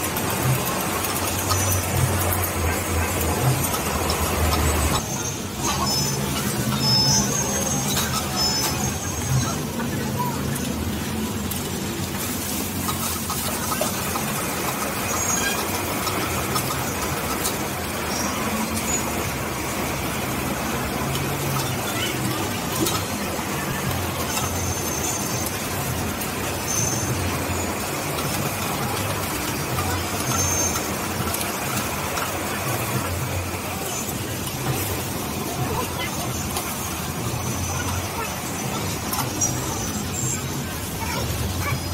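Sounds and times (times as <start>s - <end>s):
brakes squealing: 0.0s - 41.9s
road traffic passing: 0.0s - 41.9s.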